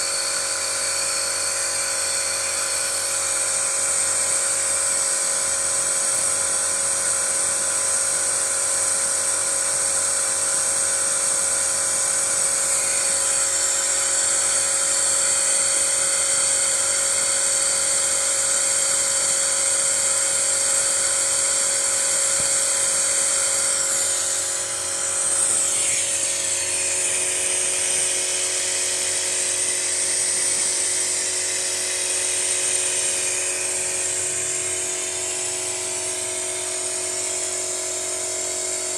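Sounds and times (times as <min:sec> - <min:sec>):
high-pitched air intake whine: 0:00.0 - 0:38.9.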